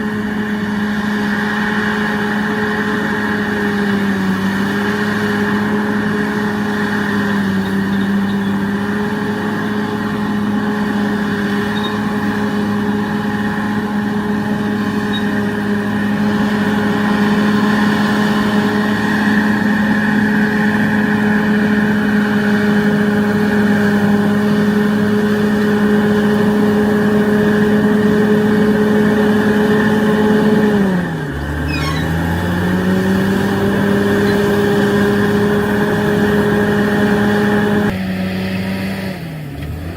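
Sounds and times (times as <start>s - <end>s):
diesel engine running at high revs: 0.0s - 39.9s.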